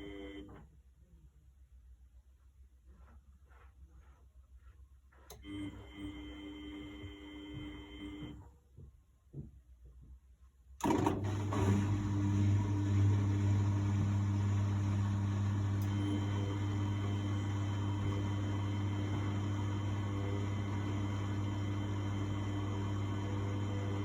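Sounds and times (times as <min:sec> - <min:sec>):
washing machine electrical hum: 0:00.0 - 0:00.8, 0:03.0 - 0:09.5, 0:10.8 - 0:24.0.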